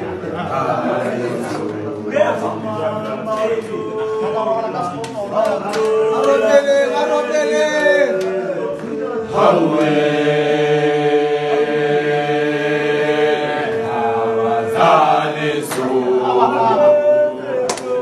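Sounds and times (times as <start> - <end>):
men singing a cappella: 0.0 - 18.0.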